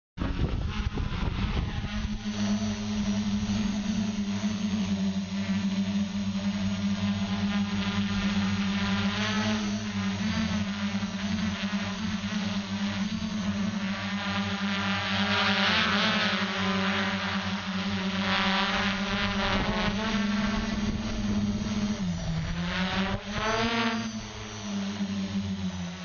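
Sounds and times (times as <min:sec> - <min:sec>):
drone motors buzzing: 0:00.2 - 0:26.0.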